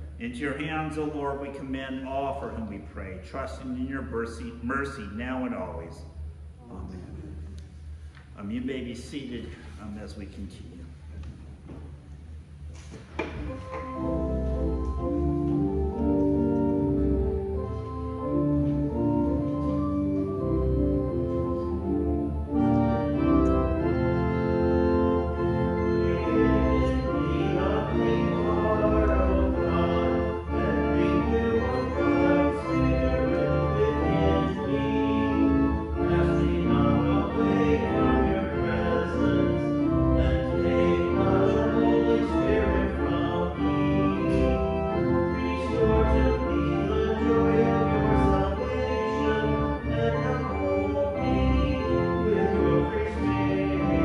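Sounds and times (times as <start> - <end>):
pipe organ playing chords: 0.0 - 6.5, 13.2 - 54.0.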